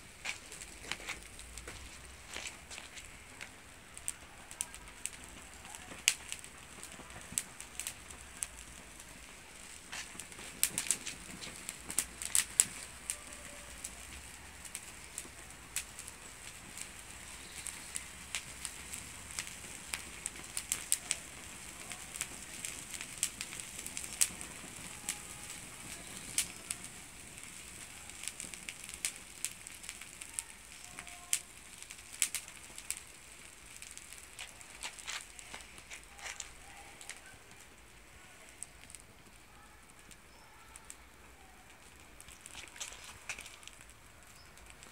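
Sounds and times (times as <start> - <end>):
twigs crackling in fire: 0.0 - 44.9.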